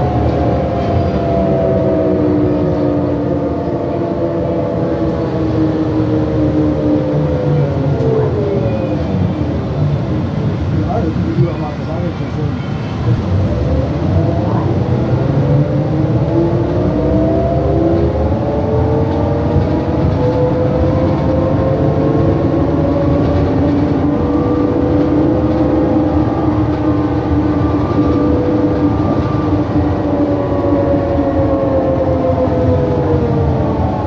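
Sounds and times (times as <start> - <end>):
bus drivetrain whine: 0.0 - 34.0
low rumble: 0.0 - 34.0.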